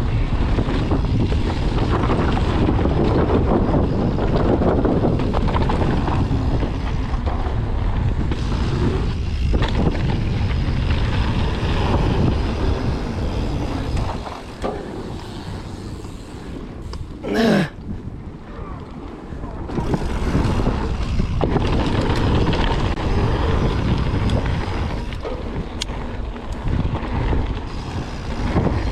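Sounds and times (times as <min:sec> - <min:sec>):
mountain bike rumbling and rattling: 0:00.0 - 0:28.9
wind buffeting microphone: 0:00.0 - 0:28.9.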